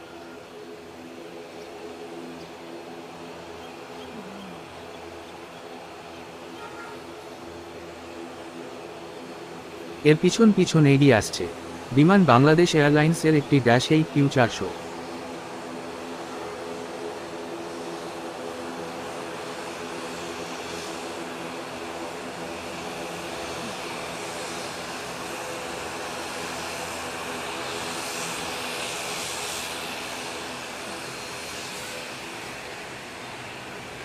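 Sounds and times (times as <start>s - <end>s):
turboprop engines droning: 0.0s - 34.0s.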